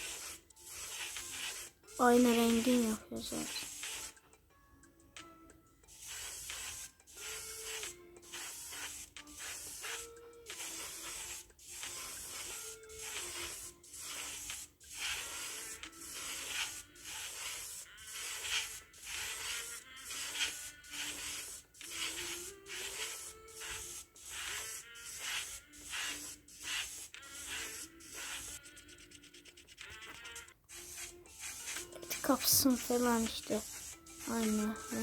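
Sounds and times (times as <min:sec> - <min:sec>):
paint sprayer hissing: 0:00.0 - 0:04.2, 0:06.0 - 0:28.8, 0:29.7 - 0:35.0
quiet background music: 0:00.0 - 0:35.0.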